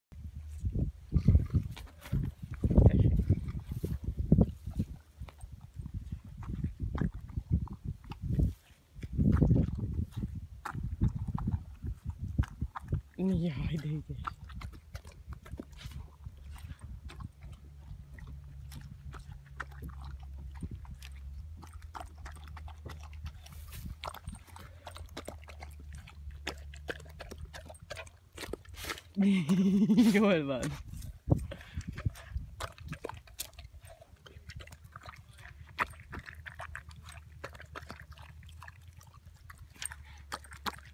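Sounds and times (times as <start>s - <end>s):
dog chewing watermelon: 1.1s - 40.9s.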